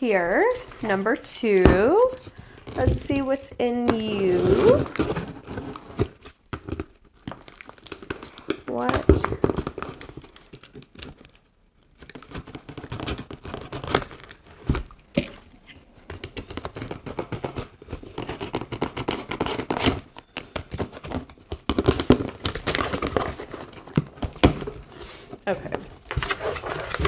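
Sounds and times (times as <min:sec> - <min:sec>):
packaging rustling and crinkling: 0:00.3 - 0:27.0.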